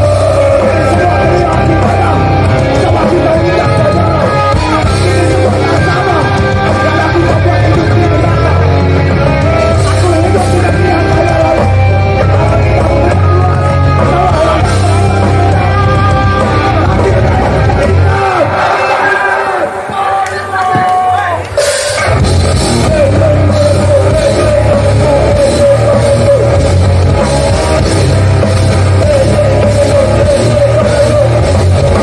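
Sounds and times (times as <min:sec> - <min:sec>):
bass: 0:00.0 - 0:19.0, 0:20.5 - 0:32.0
drums: 0:00.0 - 0:32.0
loud guitars: 0:00.0 - 0:32.0.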